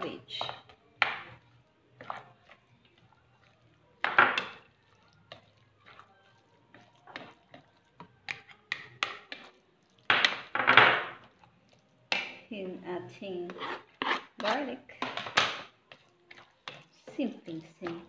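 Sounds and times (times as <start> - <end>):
spoon scraping mixing bowl: 0.0 - 10.5, 13.3 - 18.0.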